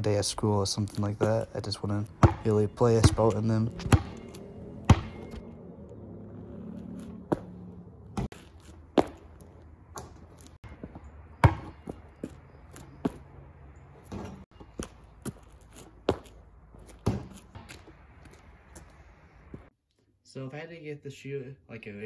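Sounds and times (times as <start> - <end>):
sneaker footsteps on asphalt: 0.1 - 5.4, 6.5 - 19.7.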